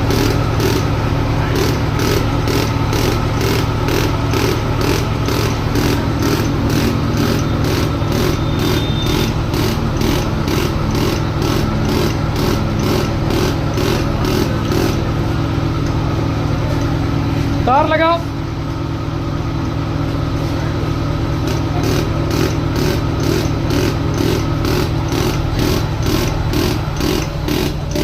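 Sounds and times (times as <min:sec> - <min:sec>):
sharp regular ticking: 0:00.0 - 0:17.9, 0:21.4 - 0:28.0
diesel engine idling: 0:00.0 - 0:28.0.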